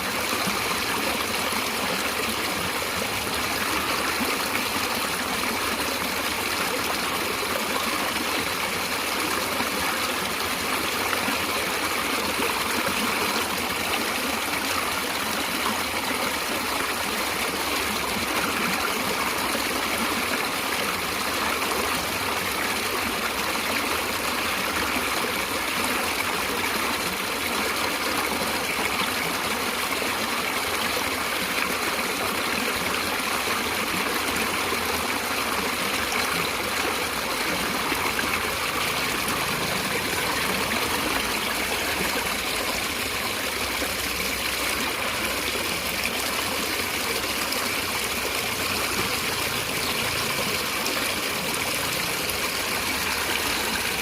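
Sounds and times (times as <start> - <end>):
running water flowing: 0.0 - 54.0.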